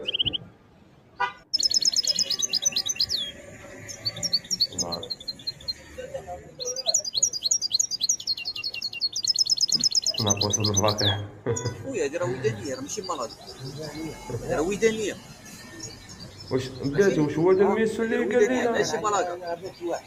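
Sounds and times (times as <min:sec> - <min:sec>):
goldfinch chirping and trilling: 0:00.0 - 0:00.4, 0:01.5 - 0:06.0, 0:06.6 - 0:11.8, 0:12.4 - 0:20.0.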